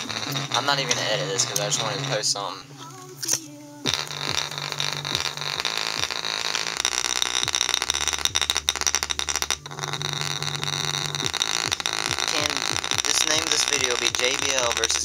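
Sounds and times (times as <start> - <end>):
distorted deep bass from speaker: 0.0 - 2.8, 3.8 - 15.0
ball buzzing rattle on speaker: 0.0 - 15.0.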